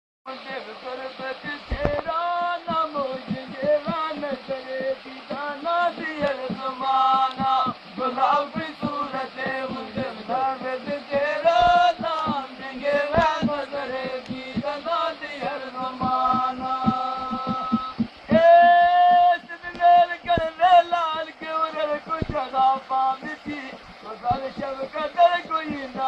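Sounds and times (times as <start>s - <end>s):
man singing chant-like melody: 0.3s - 26.0s
steady drum beat: 1.4s - 26.0s.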